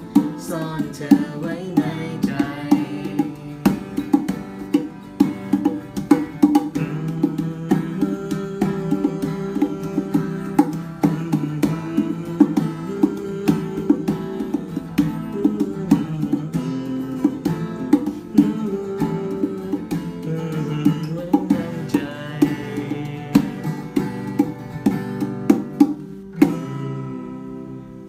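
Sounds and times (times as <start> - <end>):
hand drum strikes: 0.0 - 26.9
acoustic guitar strumming: 0.0 - 28.0.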